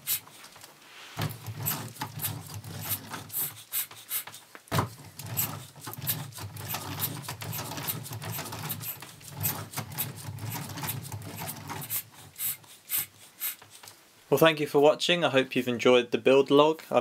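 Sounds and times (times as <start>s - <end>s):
air puffing: 0.0s - 14.0s.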